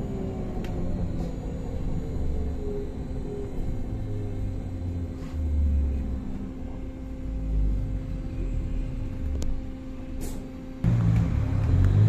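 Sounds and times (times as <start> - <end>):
low rumble of bus riding: 0.0 - 12.0.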